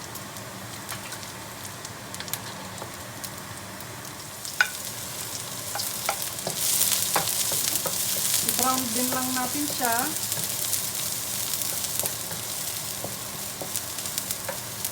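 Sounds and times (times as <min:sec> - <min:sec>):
oil sizzling in a frying pan: 0:00.0 - 0:14.9.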